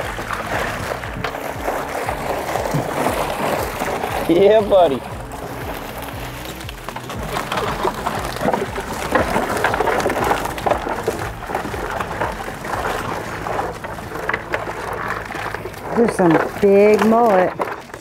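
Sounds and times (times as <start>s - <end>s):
fish flapping in a net: 0.0s - 18.0s
water dripping: 0.0s - 18.0s.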